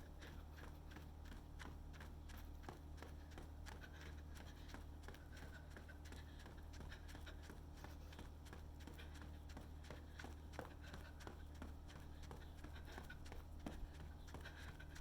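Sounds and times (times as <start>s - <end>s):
running footsteps: 0.0s - 15.0s.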